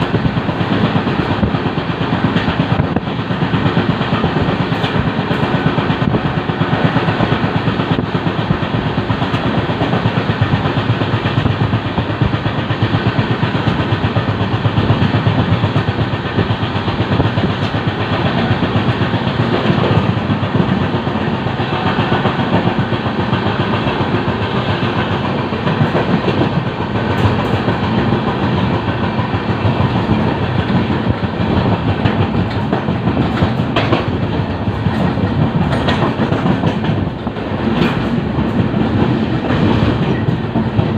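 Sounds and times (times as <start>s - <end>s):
train wheels clacking on rails: 0.0s - 40.9s.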